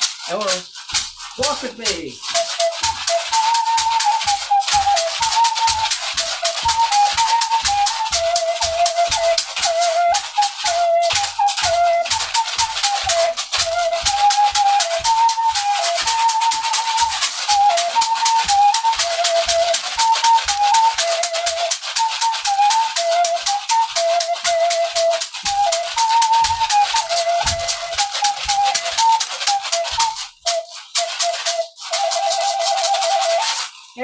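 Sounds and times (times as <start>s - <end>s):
flute playing a tune: 0.0s - 34.0s
hand rattle shaking: 0.0s - 34.0s.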